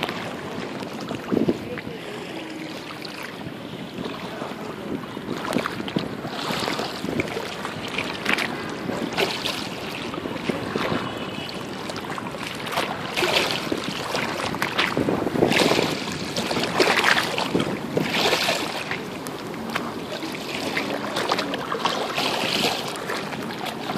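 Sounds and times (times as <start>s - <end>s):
waves splashing against embankment: 0.0s - 23.9s.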